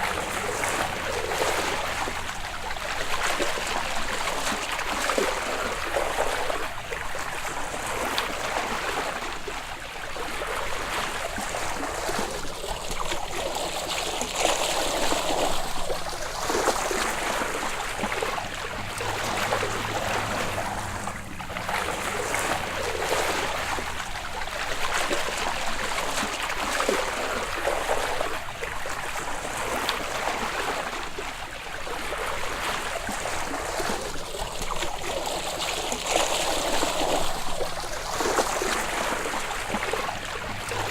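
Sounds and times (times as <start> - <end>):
seawater sloshing and splashing: 0.0 - 40.9.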